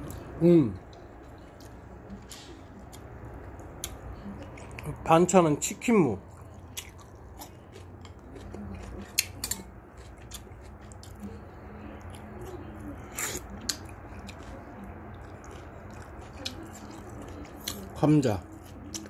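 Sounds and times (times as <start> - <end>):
person chewing food: 0.0 - 5.1, 5.8 - 19.0
faint low hum: 0.0 - 19.0.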